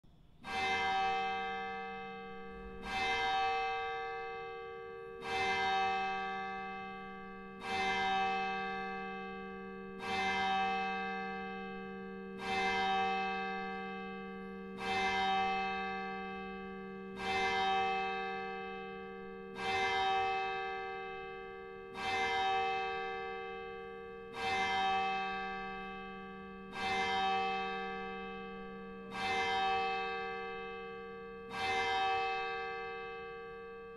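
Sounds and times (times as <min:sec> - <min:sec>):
church bell tolling: 0:00.4 - 0:33.9.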